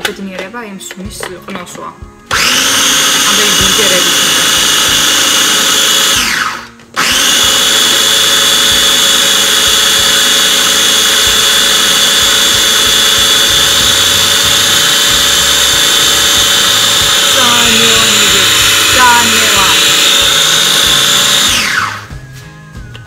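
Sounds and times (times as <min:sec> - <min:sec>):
food processor motor running: 0:02.3 - 0:22.1.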